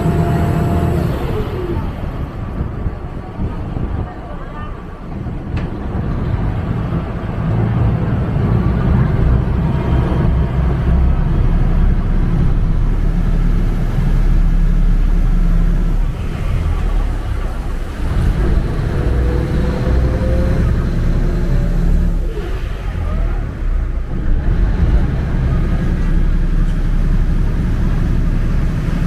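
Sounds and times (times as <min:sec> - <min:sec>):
boat engine rumbling: 0:00.0 - 0:29.0
water noise: 0:00.0 - 0:29.0.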